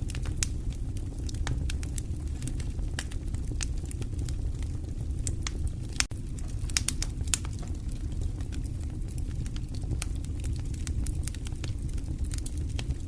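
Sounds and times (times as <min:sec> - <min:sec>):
fire crackling and popping: 0:00.0 - 0:13.0
fire rumbling in a fireplace: 0:00.0 - 0:13.0.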